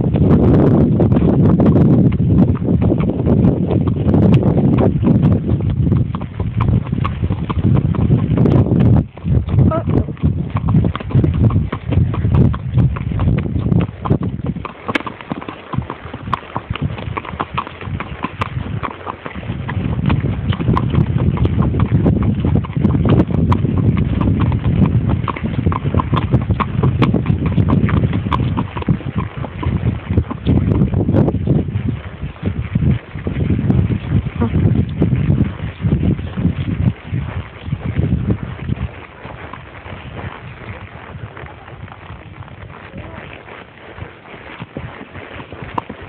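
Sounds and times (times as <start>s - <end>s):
horse hooves on dirt trail: 0.0s - 46.0s.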